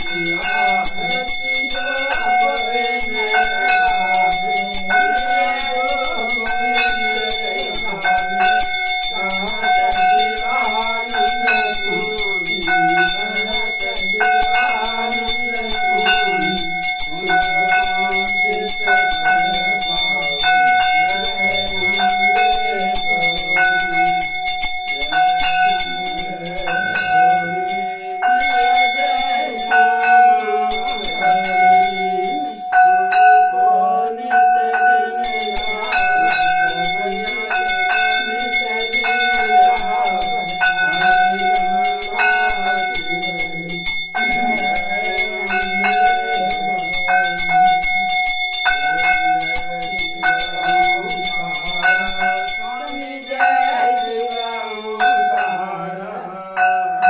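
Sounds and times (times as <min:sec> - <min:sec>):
bell ringing continuously: 0:00.0 - 0:57.0.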